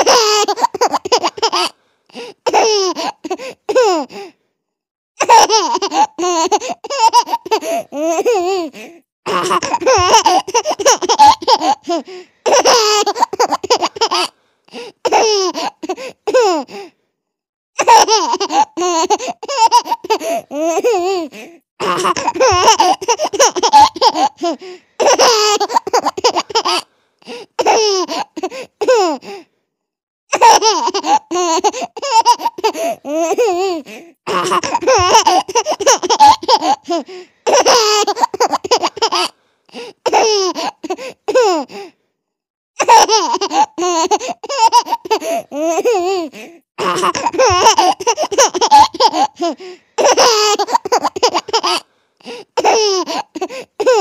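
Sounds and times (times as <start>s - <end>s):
baby giggling: 0.0s - 1.7s, 2.5s - 4.1s, 5.2s - 14.3s, 15.0s - 16.6s, 17.8s - 26.8s, 30.3s - 39.3s, 40.1s - 41.6s, 42.8s - 51.8s, 52.6s - 54.0s.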